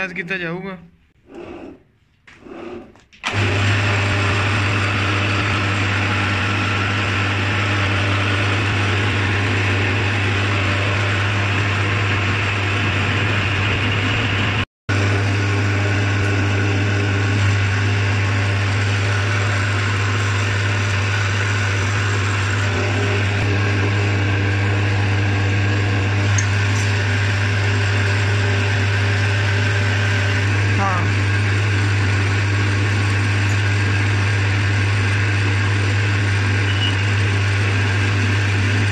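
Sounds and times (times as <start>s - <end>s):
metal lathe humming: 1.2s - 38.9s.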